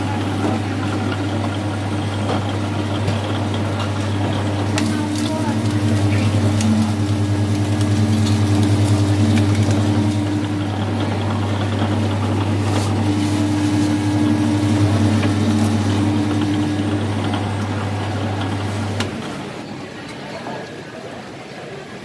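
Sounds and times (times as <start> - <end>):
rollers crushing sugarcane: 0.0 - 19.7
juice press motor hum: 0.0 - 19.9.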